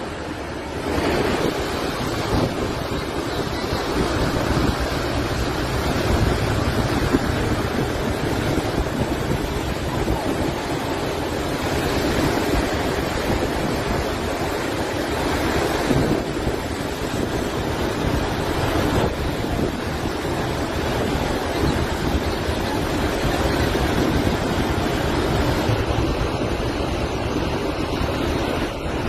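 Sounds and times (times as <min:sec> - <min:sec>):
rushing water: 0:00.0 - 0:29.0
strong wind: 0:00.0 - 0:29.0
wind gusts hitting microphone: 0:00.0 - 0:29.0.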